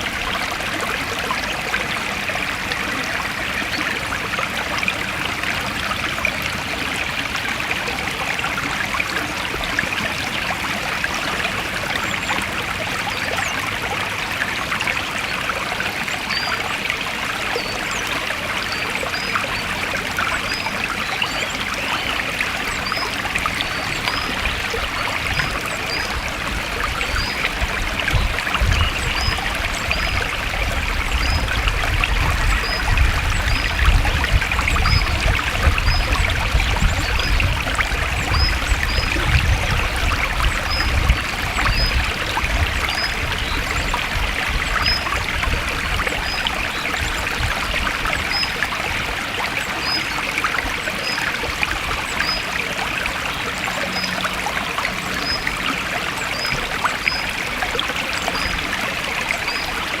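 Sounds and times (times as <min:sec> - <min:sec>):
stream water flowing over stones: 0:00.0 - 1:00.0.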